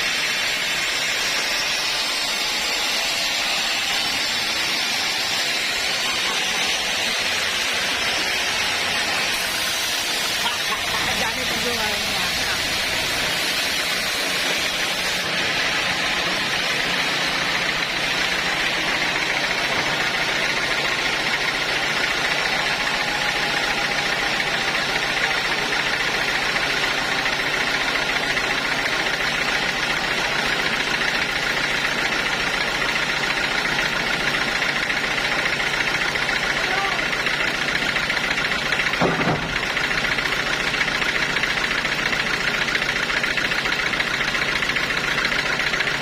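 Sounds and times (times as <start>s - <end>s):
sawmill saw drone: 0.0s - 46.0s.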